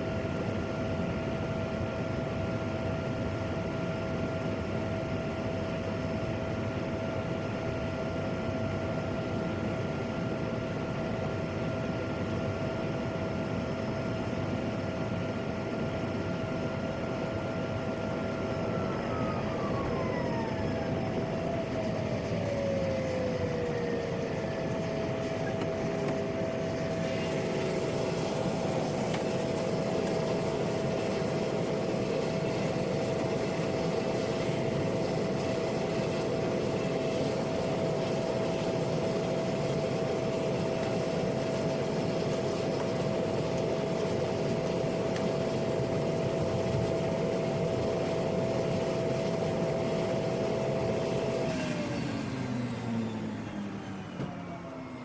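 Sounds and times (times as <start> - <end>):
turbine engine whine: 0.0 - 55.0.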